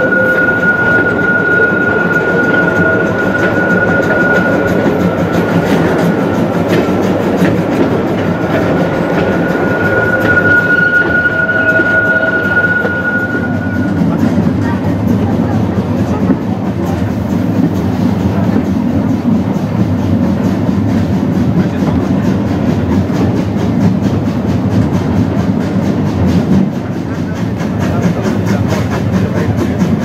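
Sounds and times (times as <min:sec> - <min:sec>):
train coaches rolling on rails: 0:00.0 - 0:30.0.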